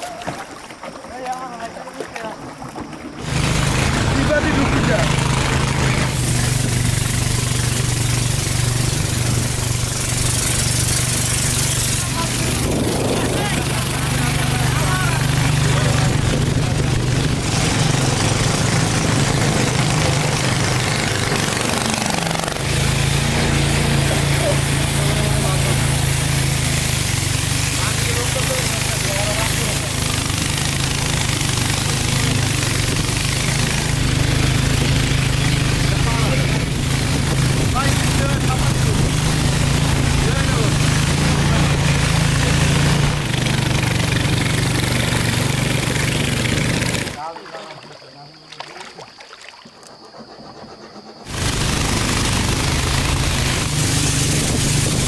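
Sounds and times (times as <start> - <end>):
boat engine humming: 0.0 - 55.0
water rushing along a hull: 0.0 - 55.0.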